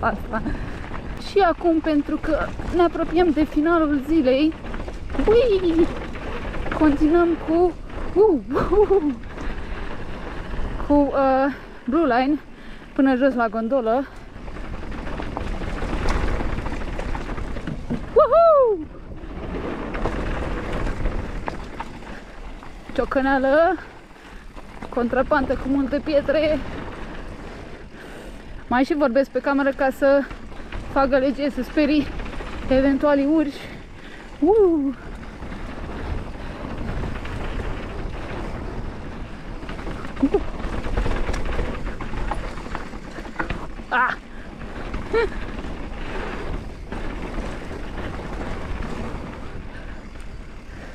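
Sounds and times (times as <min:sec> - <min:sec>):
bike knocking and rattling: 0:00.0 - 0:50.9
bike tyres rolling on dirt: 0:00.0 - 0:50.9
wind buffeting microphone: 0:00.0 - 0:50.9.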